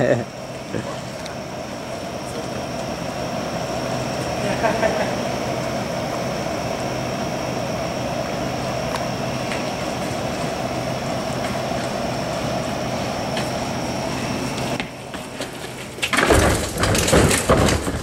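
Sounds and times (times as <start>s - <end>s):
faint high whine: 0.0s - 16.0s
mechanical hum: 0.0s - 18.0s.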